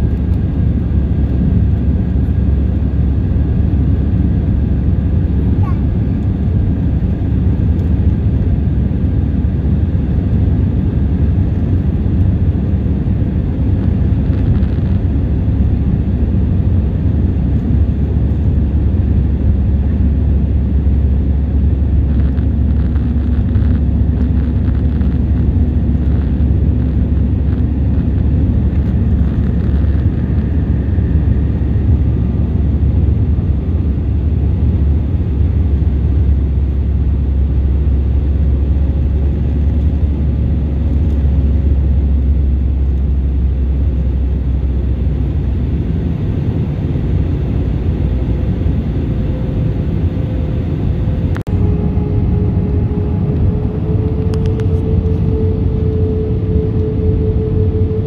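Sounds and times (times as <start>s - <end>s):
airplane cabin roar: 0.0s - 58.0s.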